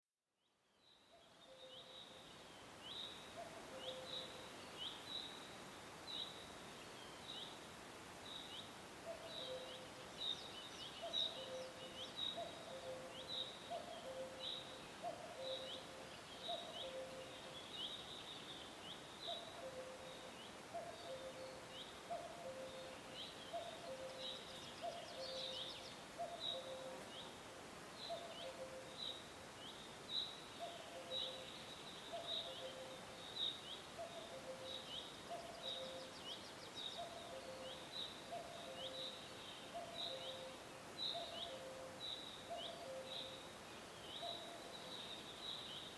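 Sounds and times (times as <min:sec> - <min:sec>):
steady hiss: 0:02.0 - 0:37.0, 0:37.6 - 0:45.9.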